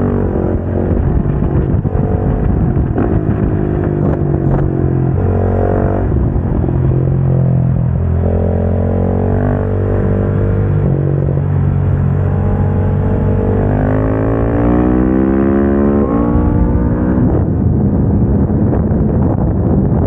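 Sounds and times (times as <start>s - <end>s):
motorcycle engine accelerating: 0.0s - 20.0s
rush of wind: 0.0s - 20.0s.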